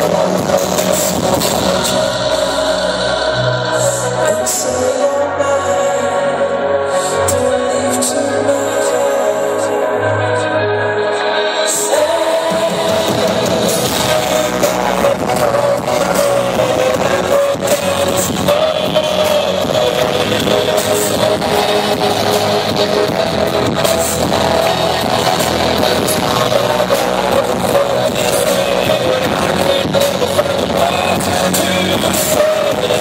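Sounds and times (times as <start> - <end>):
man singing: 0.0 - 33.0.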